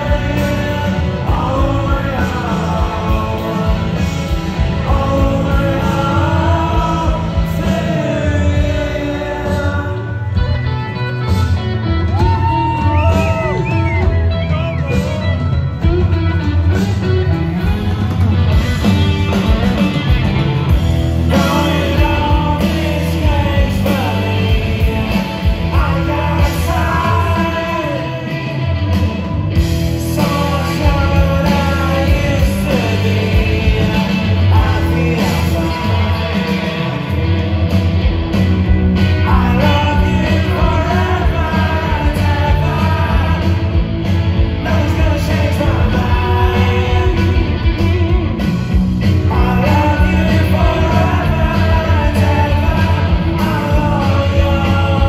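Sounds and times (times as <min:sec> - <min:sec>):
man singing: 0:00.0 - 0:17.8, 0:21.0 - 0:37.7, 0:39.0 - 0:55.0
rock band playing: 0:00.0 - 0:55.0.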